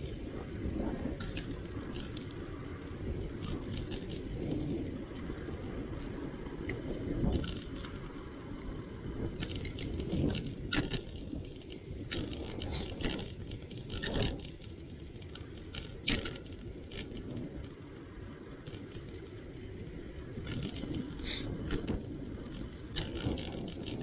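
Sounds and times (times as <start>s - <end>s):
bicycle tyre noise: 0.0s - 24.0s
bike clicks and rattles: 0.0s - 24.0s
wind on microphone: 0.0s - 24.0s.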